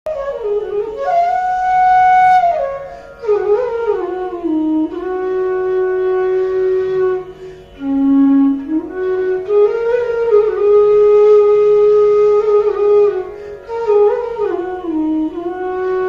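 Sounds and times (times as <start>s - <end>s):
bamboo flute melody: 0.1s - 16.0s.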